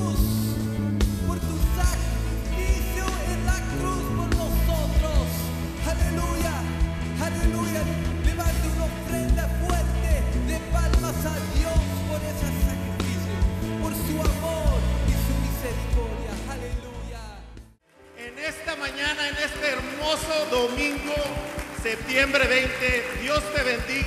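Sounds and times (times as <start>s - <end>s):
worship band playing: 0.0s - 24.0s.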